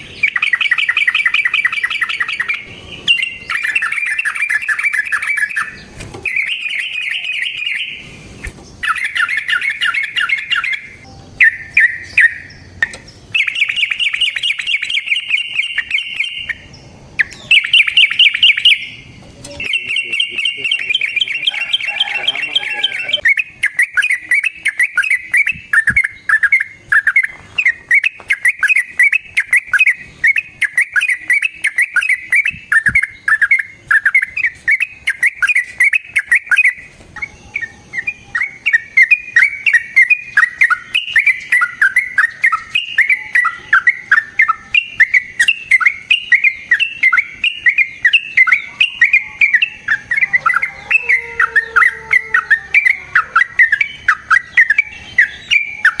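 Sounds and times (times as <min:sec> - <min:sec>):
bird singing chattering notes: 0:00.0 - 0:56.0.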